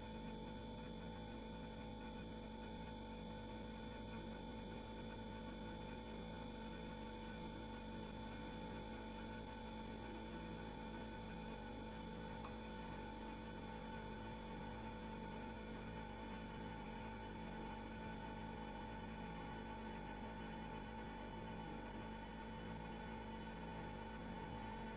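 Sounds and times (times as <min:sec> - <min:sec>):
refrigerator compressor hum: 0:00.0 - 0:24.9.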